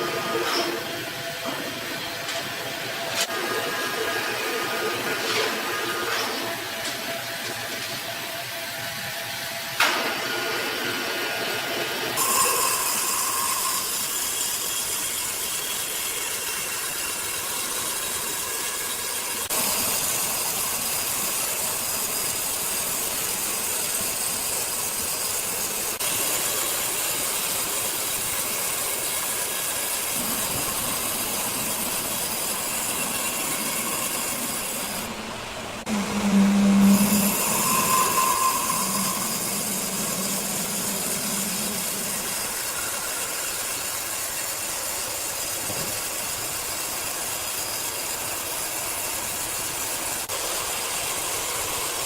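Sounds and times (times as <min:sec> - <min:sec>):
sawmill saw cutting wood: 0:00.0 - 0:52.0.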